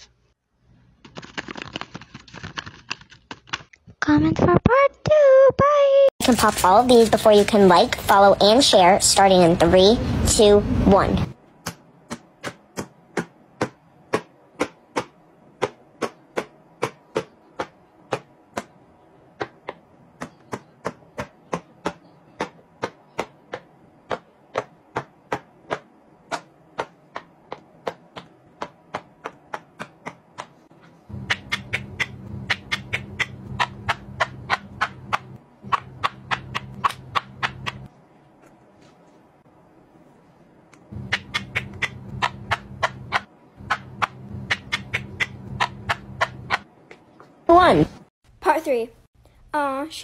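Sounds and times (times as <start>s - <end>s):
steady low hum: 6.2s - 49.5s.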